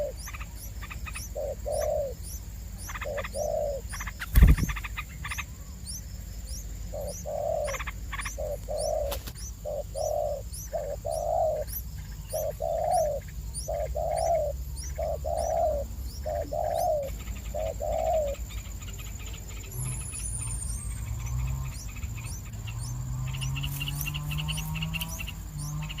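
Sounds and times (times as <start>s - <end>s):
dove cooing: 0.0s - 5.9s, 6.9s - 26.0s.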